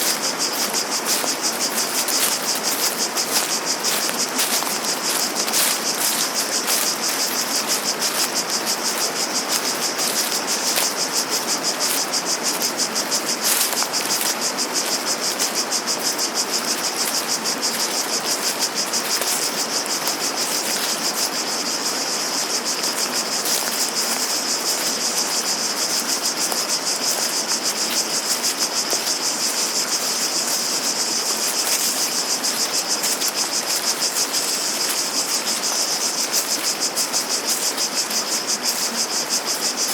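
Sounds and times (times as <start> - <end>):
background hiss: 0.0 - 39.9
cicadas buzzing: 0.0 - 39.9.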